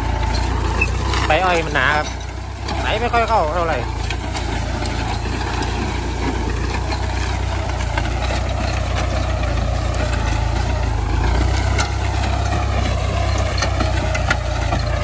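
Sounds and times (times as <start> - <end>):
plough discs crackling: 0.0 - 15.0
tractor diesel engine running: 0.0 - 15.0.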